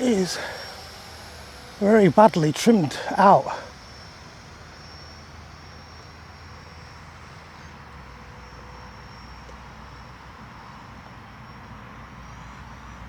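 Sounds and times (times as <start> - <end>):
high whine of rc jet: 0.0 - 13.0.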